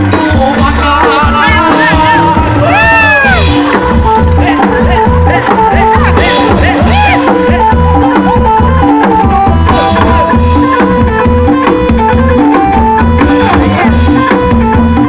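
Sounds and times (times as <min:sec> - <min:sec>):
drum beat: 0:00.0 - 0:15.0
heavy bass: 0:00.0 - 0:15.0.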